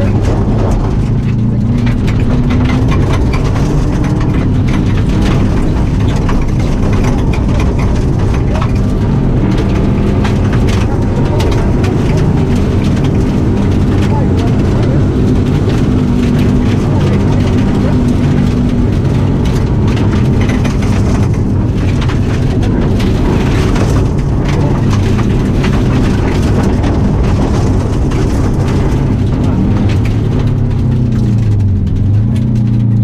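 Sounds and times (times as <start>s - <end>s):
gravel rattling against underbody: 0.0s - 33.0s
rally car engine running hard: 0.0s - 33.0s.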